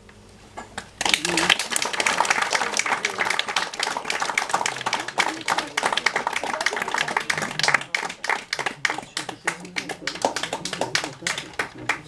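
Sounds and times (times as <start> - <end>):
audience clapping: 0.8 - 12.0
voices talking: 1.1 - 12.0.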